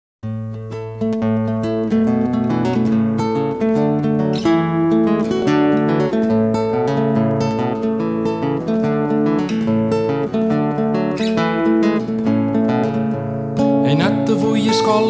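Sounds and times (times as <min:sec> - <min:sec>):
acoustic guitar strumming chords: 0:00.2 - 0:15.0.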